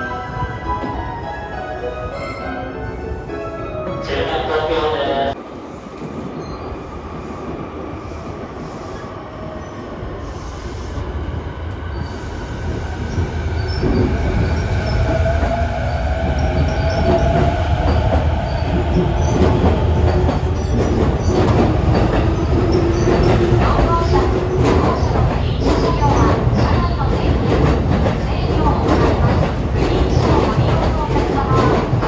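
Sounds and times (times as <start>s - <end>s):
train rumble: 0.0s - 32.0s.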